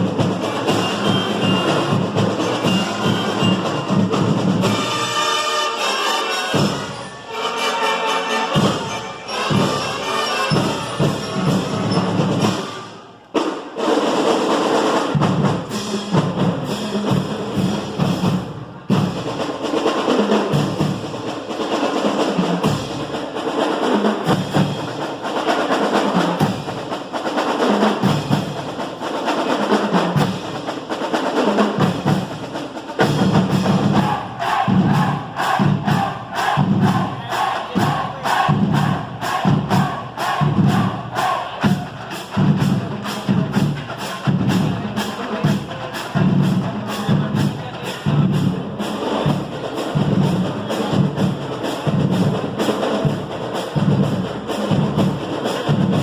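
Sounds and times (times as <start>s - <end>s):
drums beating: 0.0s - 5.4s, 6.5s - 7.2s, 8.5s - 56.0s
marching band playing: 0.0s - 56.0s.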